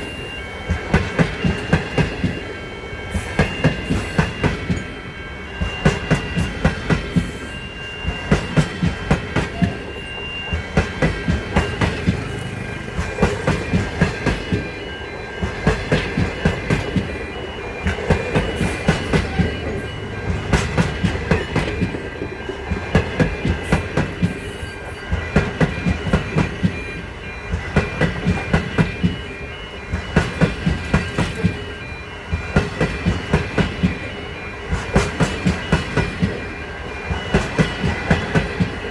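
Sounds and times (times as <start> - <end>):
train rumble: 0.0 - 38.9
train wheels clacking: 0.0 - 38.9.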